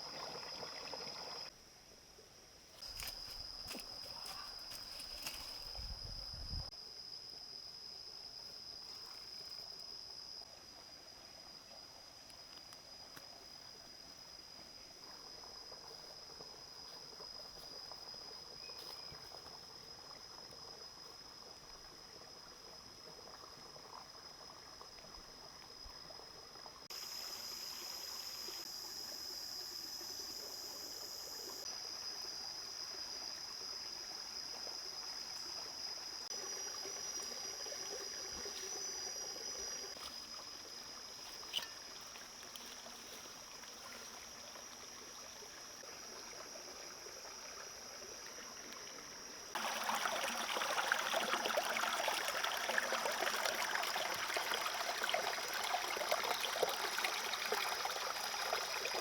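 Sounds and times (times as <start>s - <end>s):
trickling water-like noise: 0.0s - 1.6s, 8.7s - 59.0s.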